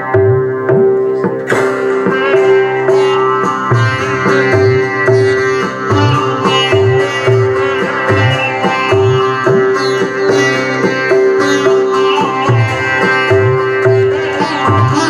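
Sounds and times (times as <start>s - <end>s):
electronic tabla drum strokes: 0.0s - 15.0s
electronic tanpura drone: 0.0s - 15.0s
sitar plucked gliding notes: 0.0s - 15.0s.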